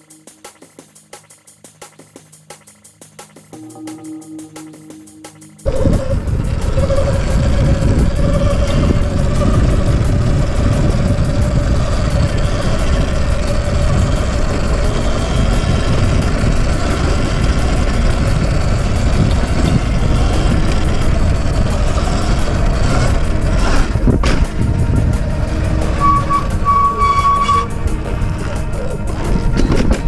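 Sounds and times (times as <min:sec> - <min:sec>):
wind noise on microphone: 0:05.6 - 0:30.0.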